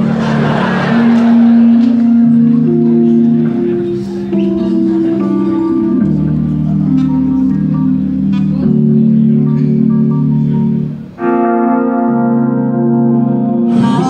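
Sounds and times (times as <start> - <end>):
keyboard and organ chords: 0.0 - 14.0.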